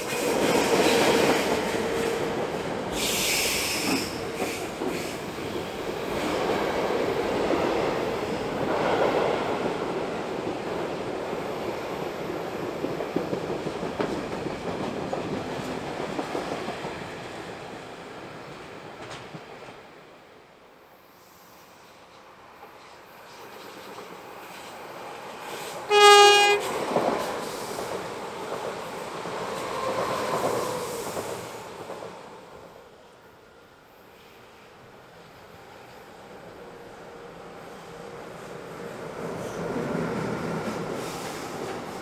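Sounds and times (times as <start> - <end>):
train wheels rumbling on rail: 0.0 - 20.0, 21.9 - 32.8, 34.2 - 42.0.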